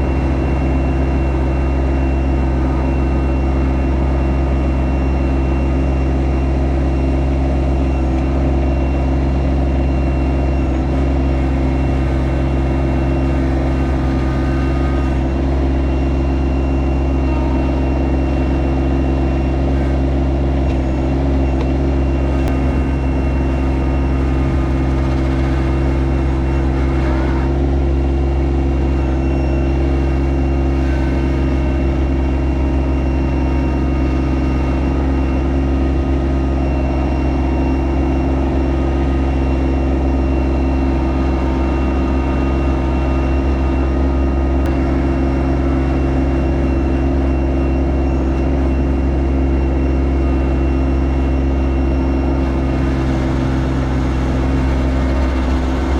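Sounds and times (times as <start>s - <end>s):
diesel tractor engine running: 0.0s - 55.9s.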